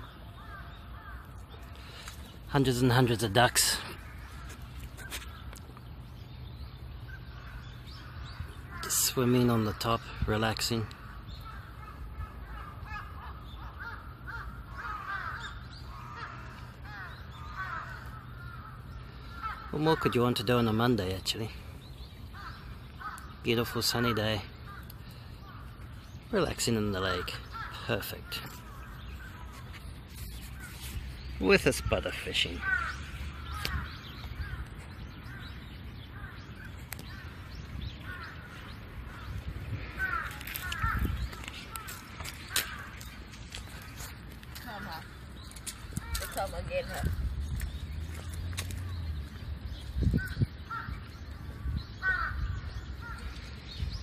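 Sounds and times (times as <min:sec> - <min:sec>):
birds harsh calls: 0:00.0 - 0:54.0.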